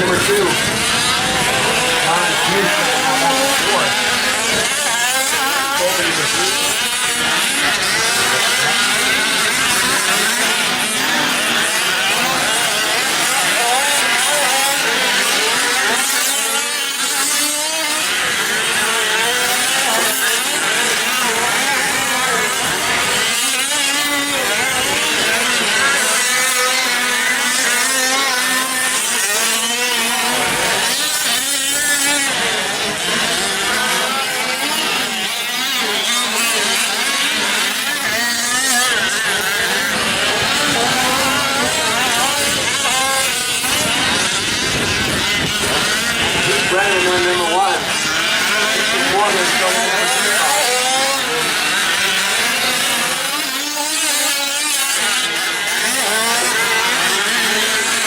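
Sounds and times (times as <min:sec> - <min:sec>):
small two-stroke engines buzzing: 0:00.0 - 0:58.0.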